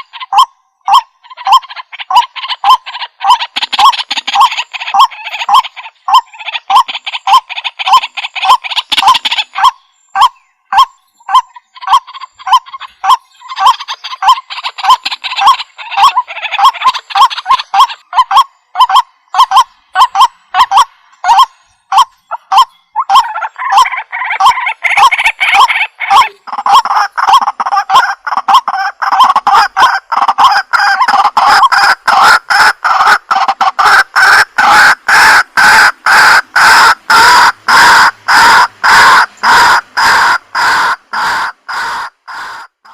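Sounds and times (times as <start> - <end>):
waterhen calling: 0.0 - 42.9.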